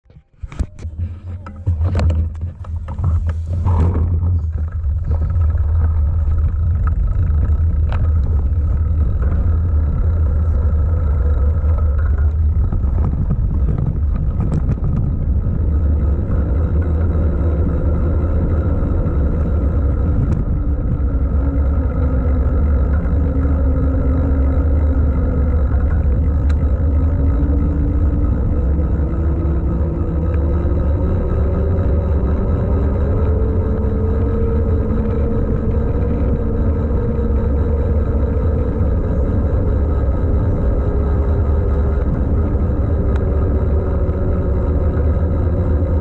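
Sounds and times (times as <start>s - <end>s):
clicks and rattle: 0.0s - 43.8s
wind rumble on microphone: 0.0s - 46.0s
tyre noise on road: 0.2s - 46.0s.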